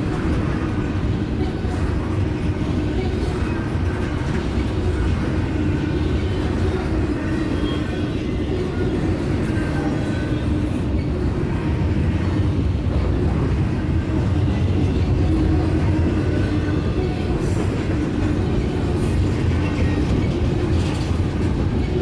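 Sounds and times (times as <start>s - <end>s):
steel wheels rumbling on rails: 0.0s - 22.0s.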